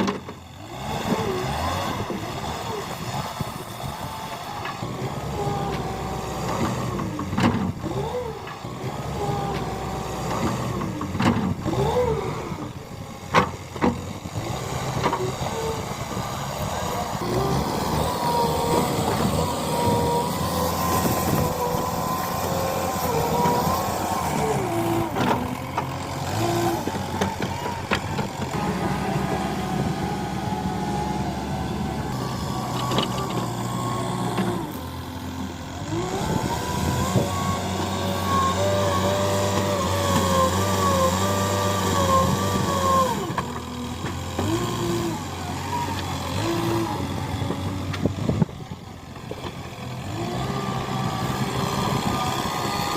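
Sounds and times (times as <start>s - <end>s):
diesel engine whining under load: 0.0s - 52.9s.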